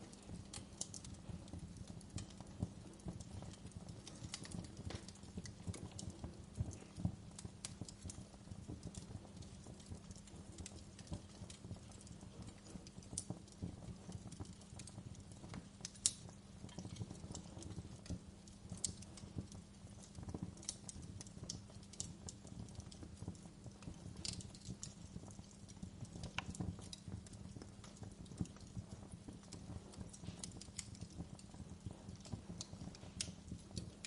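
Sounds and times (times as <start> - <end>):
fireplace crackling: 0.0 - 34.0
sharp pops of fire: 0.0 - 34.0.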